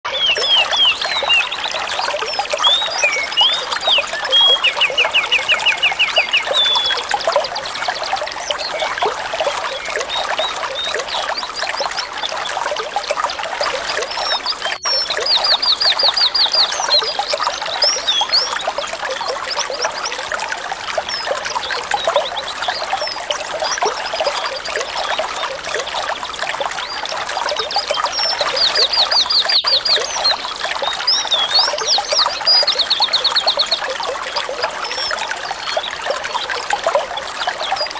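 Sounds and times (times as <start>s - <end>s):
songbirds chirping and trilling: 0.1s - 37.9s
water trickling and pouring: 0.1s - 37.9s.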